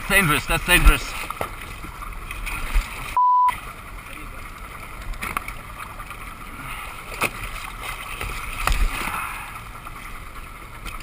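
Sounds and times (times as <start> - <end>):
boat and water noise: 0.0 - 11.0.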